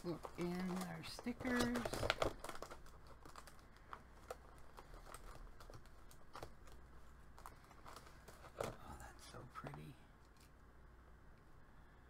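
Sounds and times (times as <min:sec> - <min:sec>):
stickers and packaging handled: 0:00.0 - 0:10.6.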